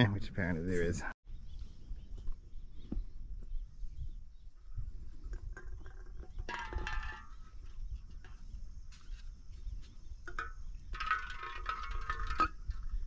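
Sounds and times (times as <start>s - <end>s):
low wind rumble: 1.3s - 13.0s.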